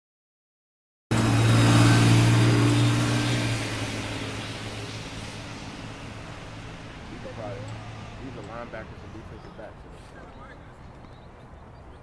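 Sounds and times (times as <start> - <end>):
vehicle engine humming: 1.1 - 12.0.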